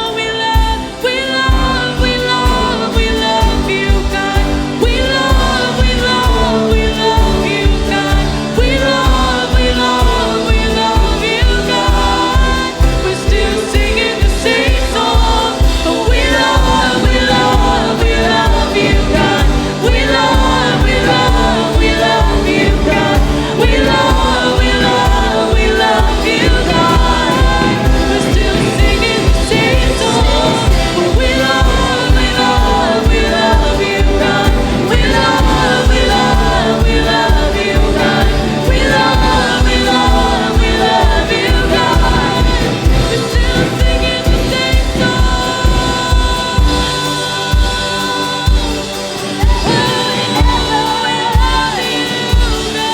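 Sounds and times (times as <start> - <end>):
worship band and singers: 0.0 - 52.9.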